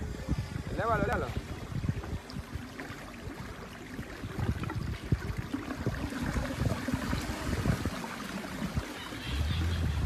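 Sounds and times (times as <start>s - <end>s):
water along a boat: 0.0s - 10.0s
wind rumbling on microphone: 0.0s - 10.0s.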